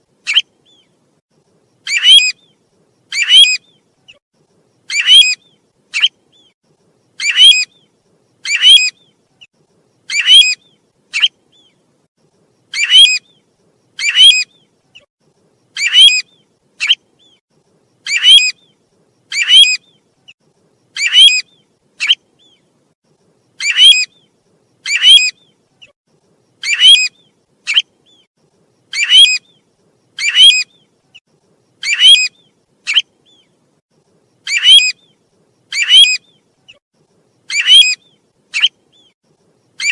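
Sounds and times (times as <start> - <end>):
bird call recording: 0.2 - 1.0, 1.8 - 4.2, 4.8 - 11.9, 12.6 - 17.4, 18.0 - 22.8, 23.5 - 33.7, 34.4 - 36.8, 37.4 - 39.9.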